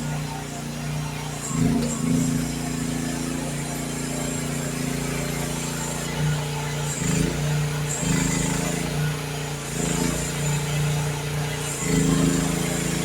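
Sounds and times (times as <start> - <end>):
excavator engine running: 0.0 - 13.0
faint high whine: 0.0 - 13.0.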